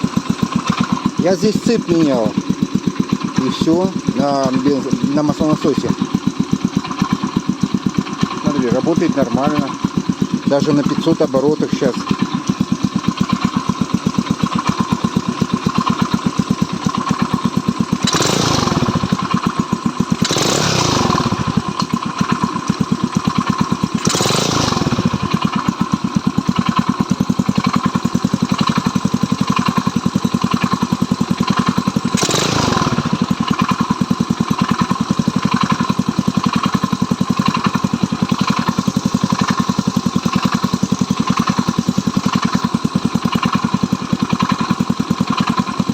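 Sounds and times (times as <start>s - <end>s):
engine idling low: 0.0s - 45.9s
loud bursts of engine noise: 0.0s - 45.9s.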